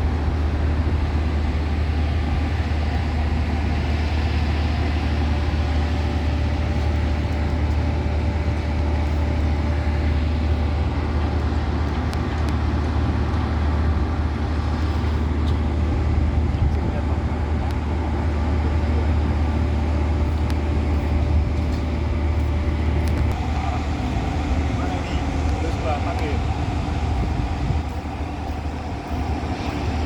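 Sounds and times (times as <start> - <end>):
low engine drone: 0.0 - 30.0
machinery rumble: 0.0 - 30.0.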